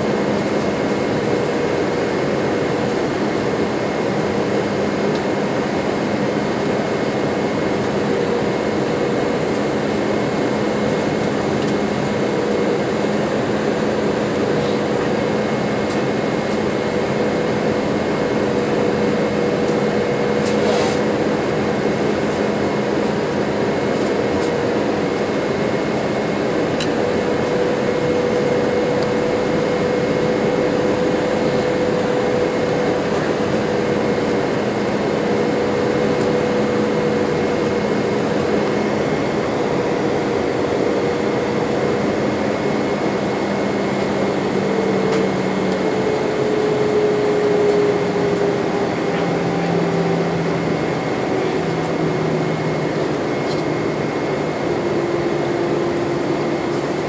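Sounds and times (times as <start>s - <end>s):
airliner engine drone: 0.0s - 57.0s
high engine whine: 0.0s - 57.0s.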